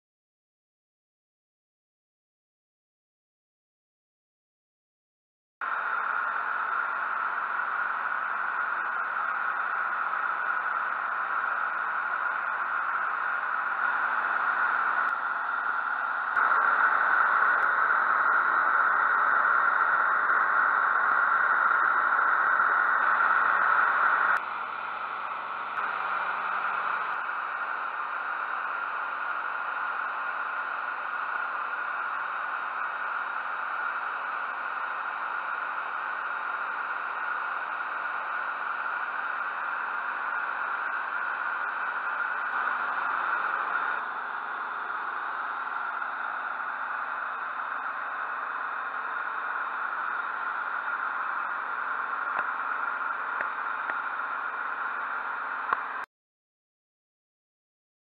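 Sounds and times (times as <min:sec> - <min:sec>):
aircraft cabin engine drone: 0:05.6 - 0:56.1.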